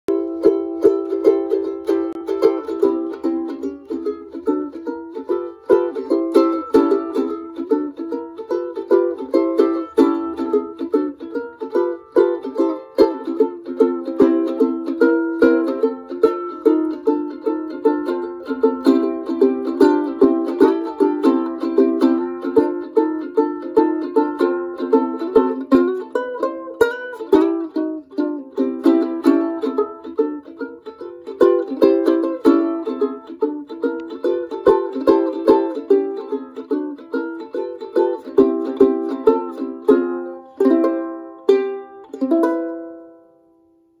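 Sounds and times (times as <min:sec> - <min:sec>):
banjo ukulele strumming chords: 0:00.1 - 0:44.0.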